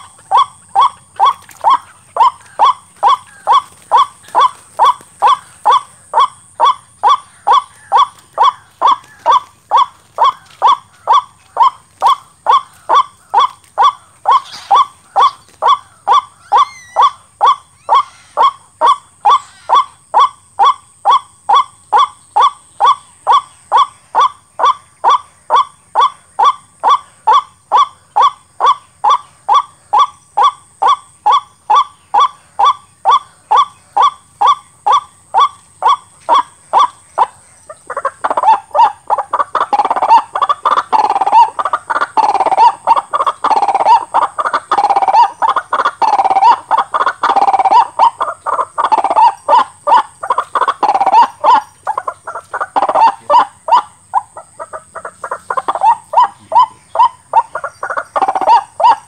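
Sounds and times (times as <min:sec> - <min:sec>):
waterhen calling: 0:00.0 - 0:59.0.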